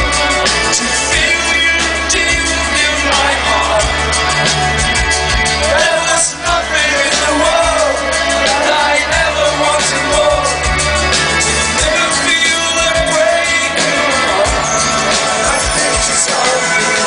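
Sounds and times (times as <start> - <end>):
live rock band: 0.0 - 17.0
man singing: 0.0 - 17.0.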